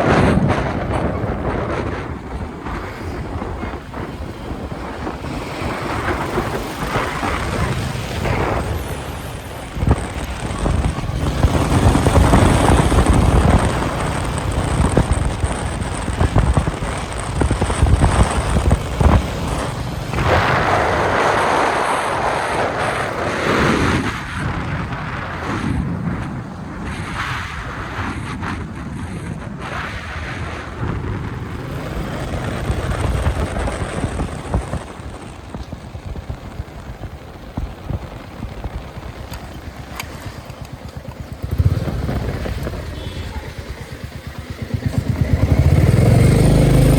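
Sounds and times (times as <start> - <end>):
motorcycle engine cruising: 0.0 - 46.9
wind noise on microphone: 0.0 - 46.9.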